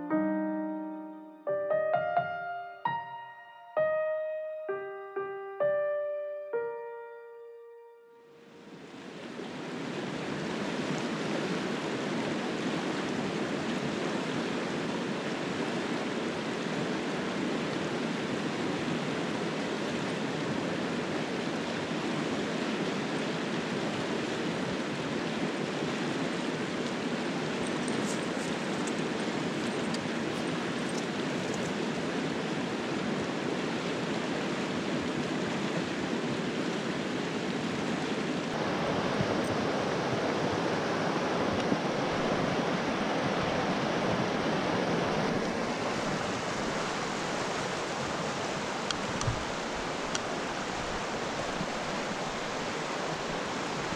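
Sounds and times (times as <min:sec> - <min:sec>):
river rushing over rocks: 0:08.6 - 0:53.9.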